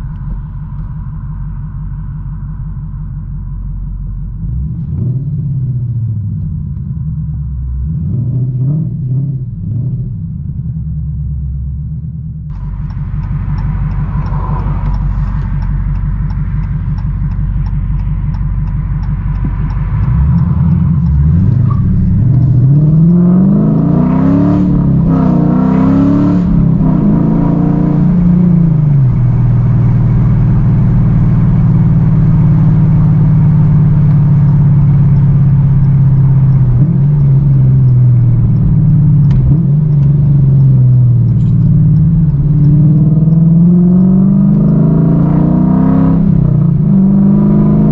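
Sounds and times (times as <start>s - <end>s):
car engine and exhaust rumbling: 0.0s - 47.9s.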